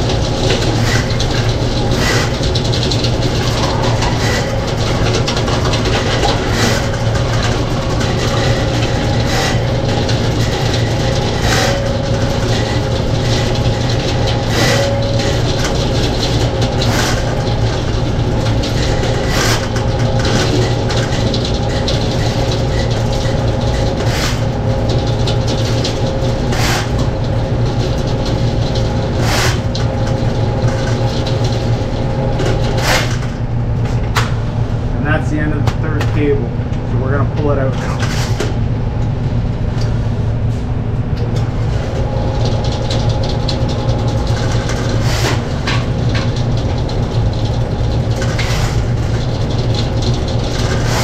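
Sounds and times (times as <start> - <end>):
drain-cleaning machine humming: 0.0 - 51.0.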